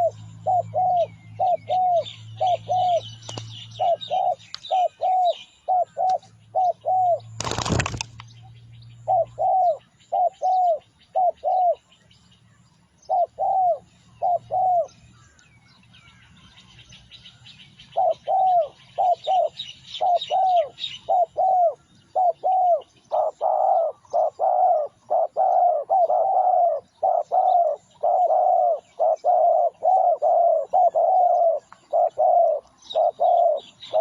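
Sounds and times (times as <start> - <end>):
dove cooing: 0.0 - 8.0, 9.0 - 11.9, 13.1 - 15.0, 17.8 - 34.0
small birds chirping: 0.0 - 34.0.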